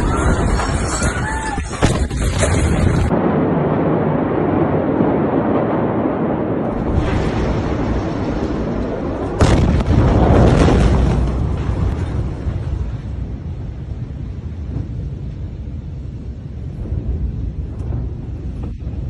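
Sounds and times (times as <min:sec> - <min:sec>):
explosion blast: 0:00.0 - 0:19.0
rumbling roar of explosion: 0:00.0 - 0:19.0.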